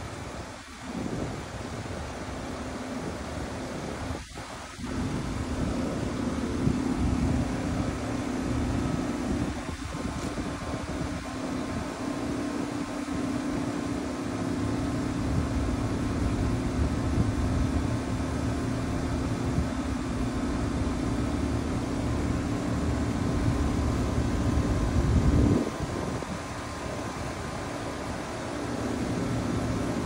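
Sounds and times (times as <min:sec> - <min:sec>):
heat pump compressor humming: 0:00.0 - 0:30.0.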